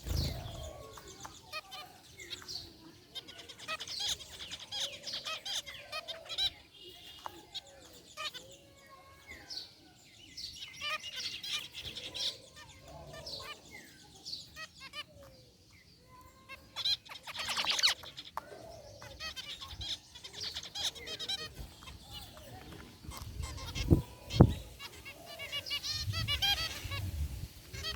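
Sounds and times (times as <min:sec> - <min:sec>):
finches chirping and beeping: 0:00.0 - 0:27.9.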